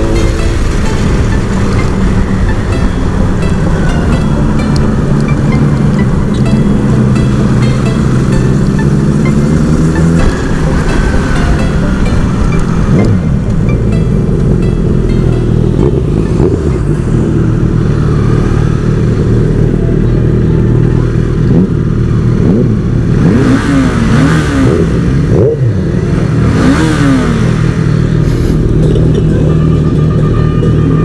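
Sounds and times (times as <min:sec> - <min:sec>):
motorcycle engine running: 0:00.0 - 0:31.0
passing traffic rush: 0:00.0 - 0:31.0.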